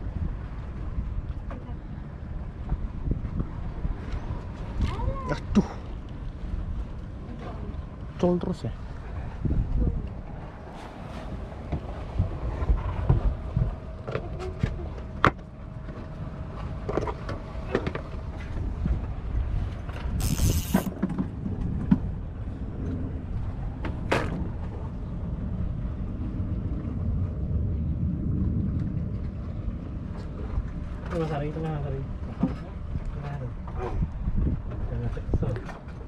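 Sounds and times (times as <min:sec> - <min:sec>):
steady low rumble: 0:00.0 - 0:36.0
wind on microphone: 0:00.0 - 0:36.0.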